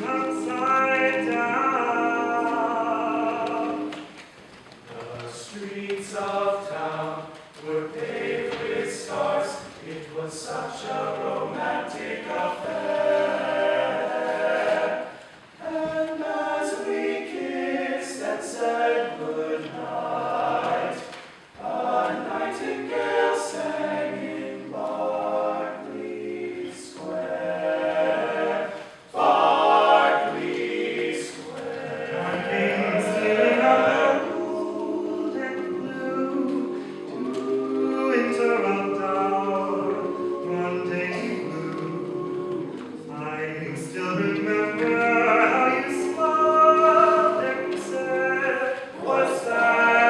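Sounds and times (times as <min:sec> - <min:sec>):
vocal group singing in harmony: 0:00.0 - 0:50.0.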